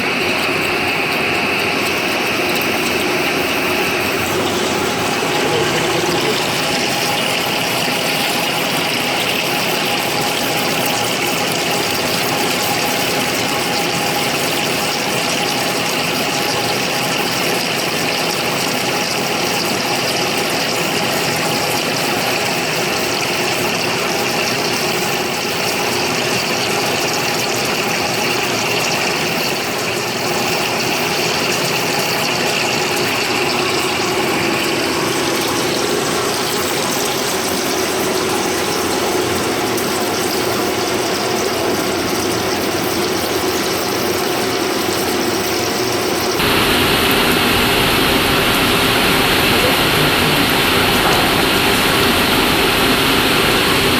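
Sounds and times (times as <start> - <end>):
lathe running: 0.0 - 27.0, 27.8 - 53.9.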